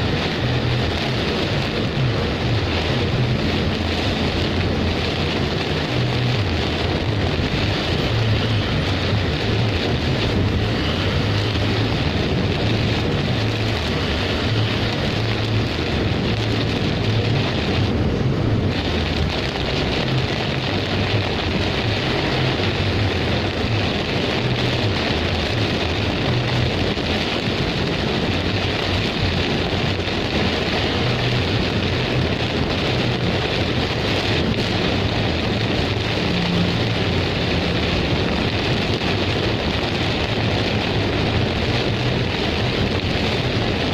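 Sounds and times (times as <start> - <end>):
heavy rain downpour: 0.0 - 43.9
low rumble: 0.0 - 43.9.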